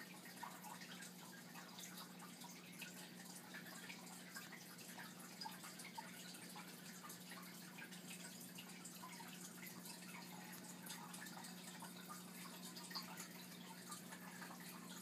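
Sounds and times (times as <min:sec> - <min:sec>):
aquarium water bubbling: 0:00.0 - 0:15.0
low steady hum: 0:00.0 - 0:15.0.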